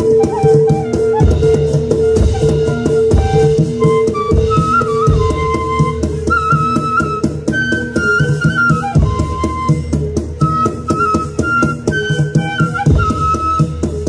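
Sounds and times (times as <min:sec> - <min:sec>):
drum strokes and percussion: 0:00.0 - 0:14.0
flute-like melody: 0:00.0 - 0:14.0.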